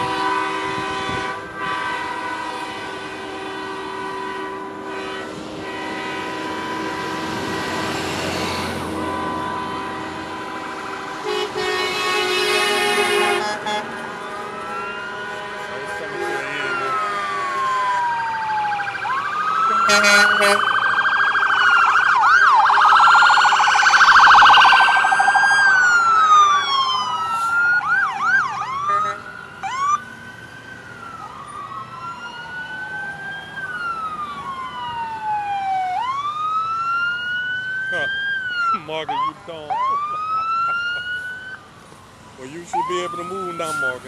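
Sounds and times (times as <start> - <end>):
emergency vehicle sirens wailing: 0.0 - 44.0.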